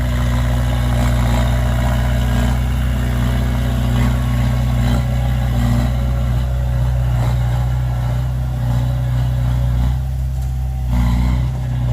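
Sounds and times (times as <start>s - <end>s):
heavy diesel engine running: 0.0s - 11.9s.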